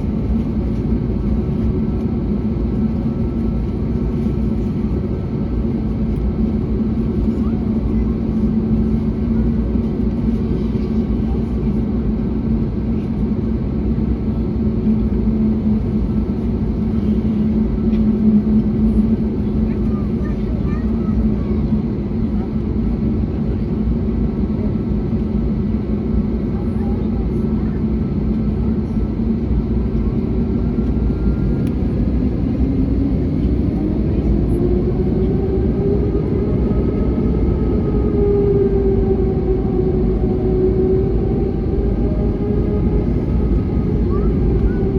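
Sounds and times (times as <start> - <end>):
airplane cabin engine drone: 0.0 - 44.9.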